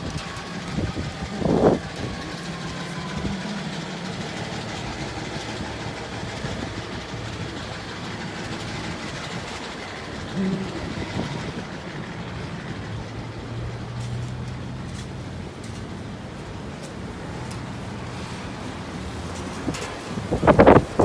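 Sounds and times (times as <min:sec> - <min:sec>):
street traffic engine hum: 0:00.0 - 0:21.0.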